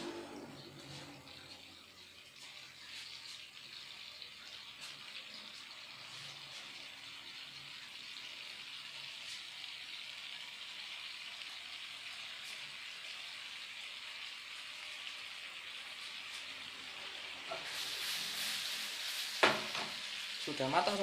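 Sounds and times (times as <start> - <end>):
egg sizzling in a frying pan: 0.0 - 21.0.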